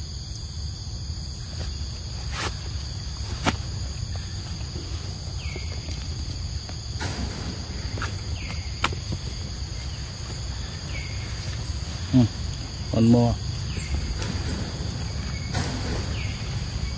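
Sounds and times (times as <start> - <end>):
high-pitched insect chorus: 0.0 - 16.9.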